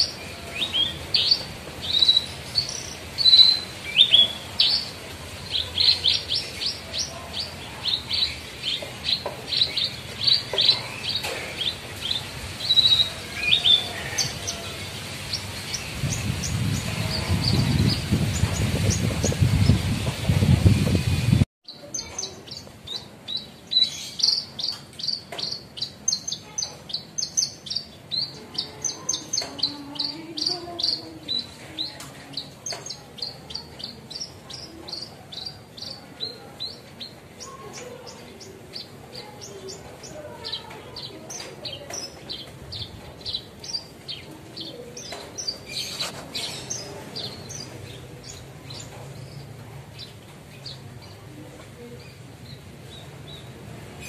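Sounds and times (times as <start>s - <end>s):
bird chirping high: 0.0s - 51.2s.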